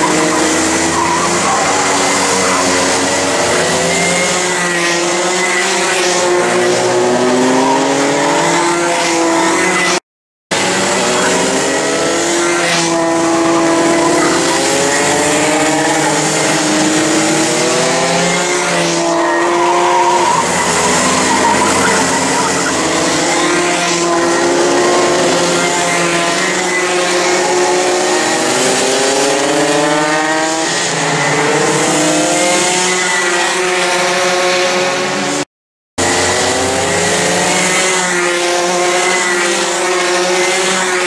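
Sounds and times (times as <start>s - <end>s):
kart engines braking and accelerating: 0.0s - 41.0s.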